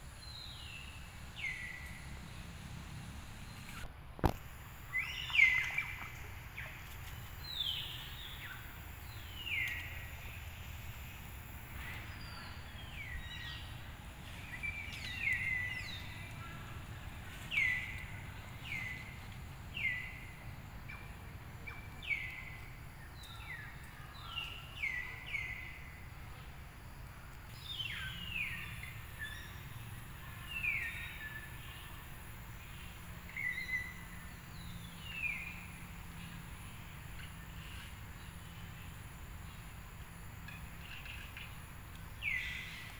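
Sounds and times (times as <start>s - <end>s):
steady low background noise: 0.0s - 42.9s.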